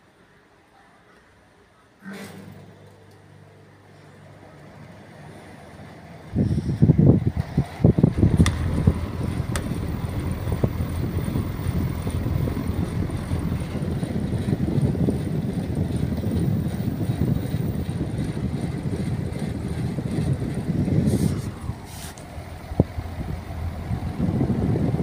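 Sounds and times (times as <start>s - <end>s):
air conditioner fan rushing air: 2.0s - 25.0s.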